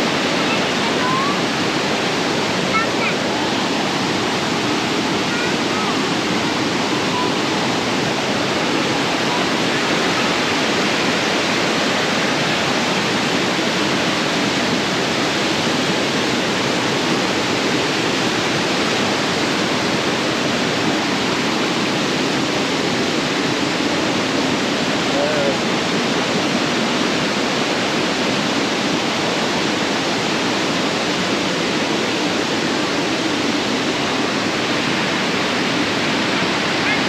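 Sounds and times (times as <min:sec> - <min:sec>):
waterfall splashing over rocks: 0:00.0 - 0:37.0.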